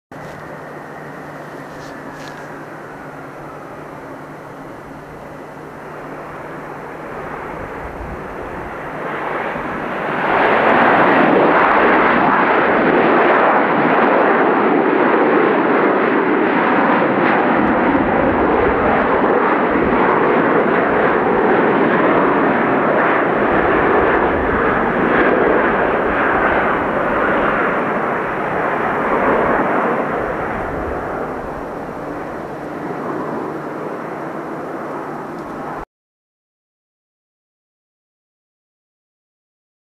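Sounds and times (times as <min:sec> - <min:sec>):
jet engines reverse thrust roar: 0:00.1 - 0:35.8.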